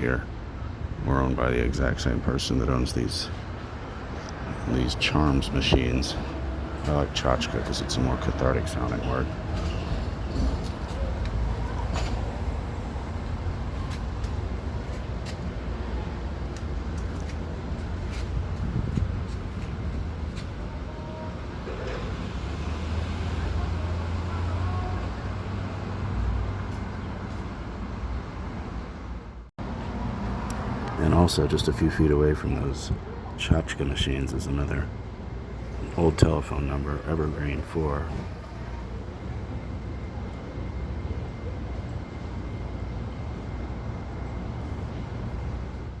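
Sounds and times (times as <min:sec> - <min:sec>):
street traffic rumble: 0:00.0 - 0:46.0.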